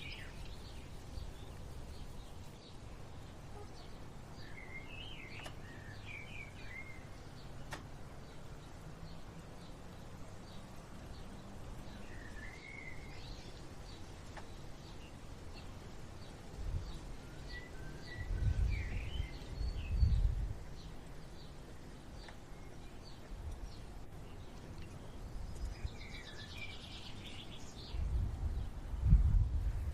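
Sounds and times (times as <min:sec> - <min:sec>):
birds whistling gliding phrases: 0:00.0 - 0:29.9.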